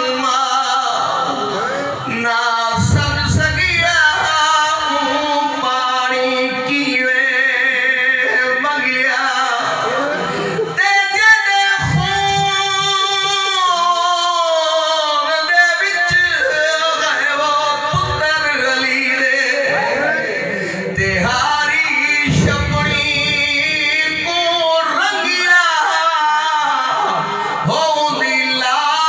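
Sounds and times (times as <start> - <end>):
man chanting a lament: 0.0 - 29.0.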